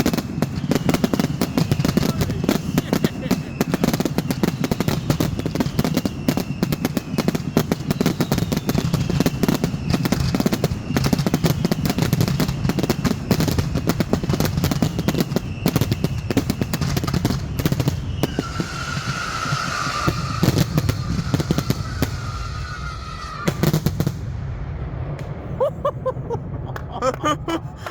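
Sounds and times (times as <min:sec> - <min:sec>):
loud firework whistle: 0:00.0 - 0:24.3
fireworks bangs and crackles: 0:00.0 - 0:27.9
whistling firework shells: 0:00.0 - 0:27.9.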